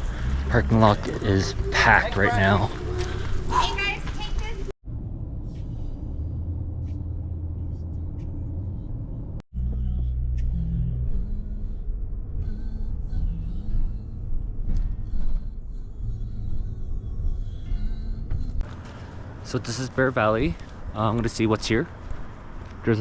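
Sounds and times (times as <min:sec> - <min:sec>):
car driving heard from inside: 0:00.0 - 0:23.0.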